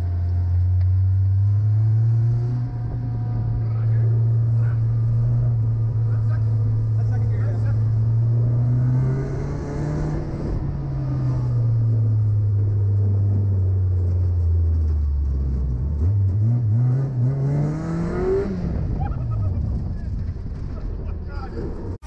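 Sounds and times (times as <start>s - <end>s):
buggy engine accelerating: 0.0s - 22.0s.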